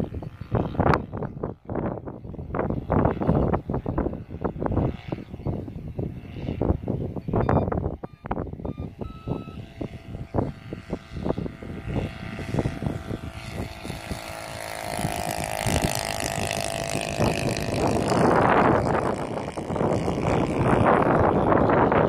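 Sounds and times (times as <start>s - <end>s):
model plane engine drone: 0.0s - 22.0s
wind buffeting microphone: 0.0s - 22.0s.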